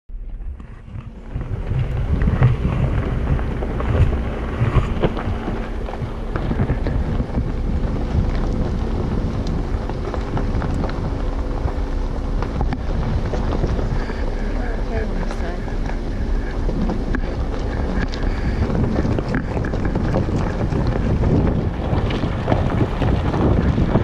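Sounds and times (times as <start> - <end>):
low engine hum: 0.1 - 24.0
wind rumbling on microphone: 0.1 - 24.0
tyres crunching over stones: 0.3 - 24.0.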